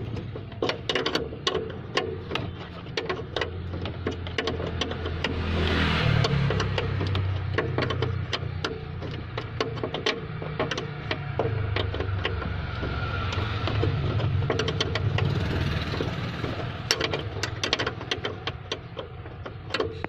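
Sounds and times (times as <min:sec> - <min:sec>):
low engine-like hum: 0:00.0 - 0:20.0
wrench clicking on nut: 0:00.1 - 0:20.0.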